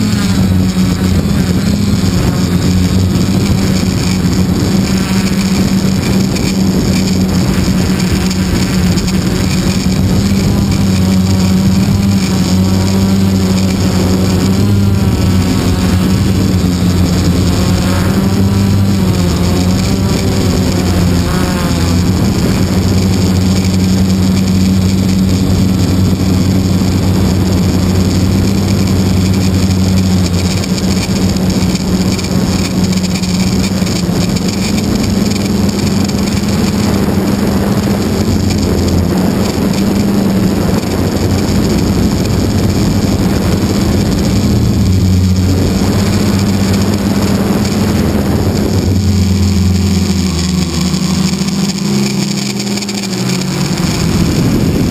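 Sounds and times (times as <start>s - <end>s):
model airplane motor droning: 0.0s - 54.9s
wind rushing over microphone: 0.0s - 54.9s.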